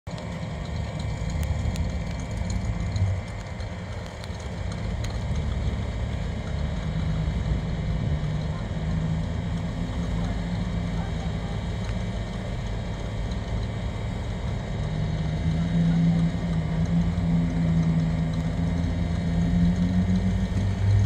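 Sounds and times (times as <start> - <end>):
truck engine low rumble: 0.0 - 21.0.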